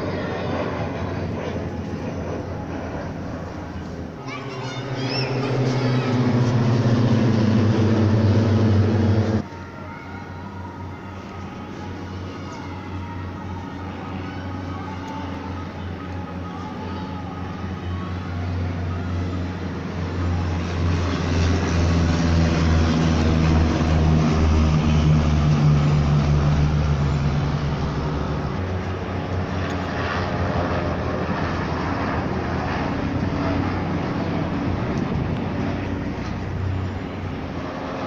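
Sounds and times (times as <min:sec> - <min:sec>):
helicopters: 0:00.0 - 0:38.0
propeller aircraft droning overhead: 0:00.0 - 0:38.0.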